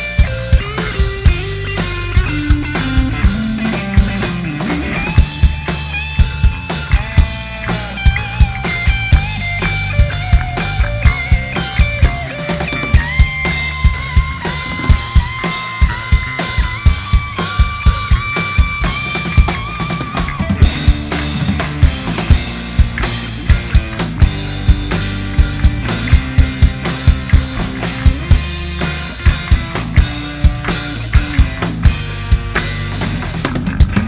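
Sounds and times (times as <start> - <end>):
drum kit beat: 0.0 - 34.0
live rock band playing: 0.0 - 34.0.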